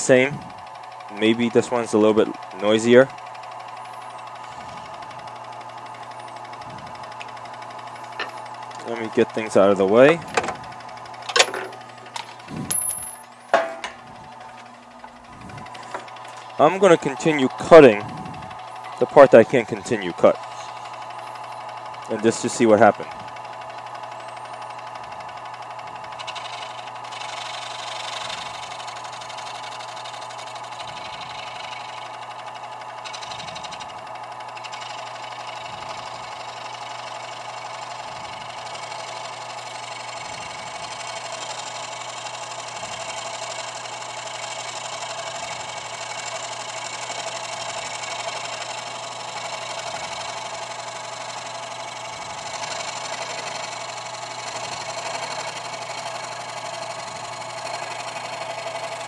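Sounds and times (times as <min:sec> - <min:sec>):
scroll saw cutting wood: 0:00.0 - 0:59.0.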